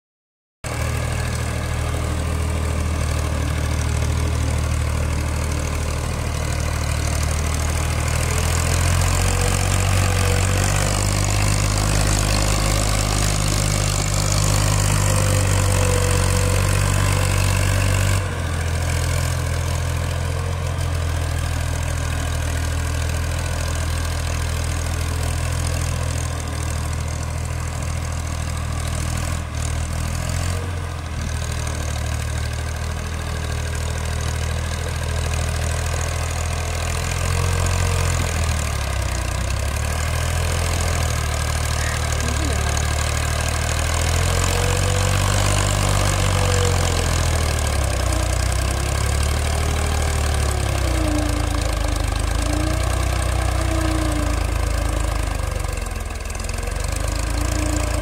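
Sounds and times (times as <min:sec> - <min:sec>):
tractor diesel engine under load: 0:00.6 - 0:58.0.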